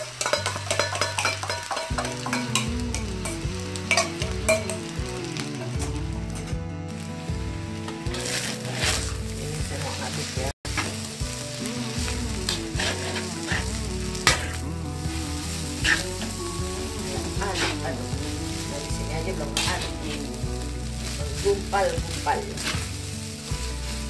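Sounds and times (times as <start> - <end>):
metal spatula scraping a wok: 0.0 - 24.0
rice sizzling in a wok: 0.0 - 24.0.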